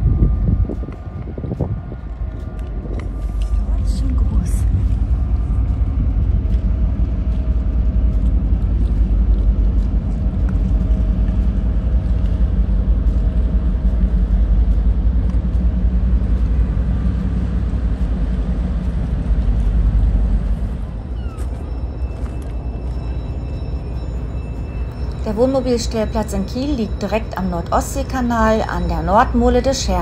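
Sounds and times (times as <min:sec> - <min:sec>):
faint machinery hum: 0:00.0 - 0:30.0
ship engines rumbling: 0:00.0 - 0:30.0.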